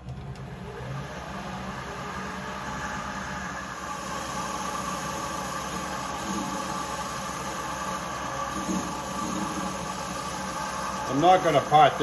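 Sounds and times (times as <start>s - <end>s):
metal lathe running: 0.5s - 12.0s.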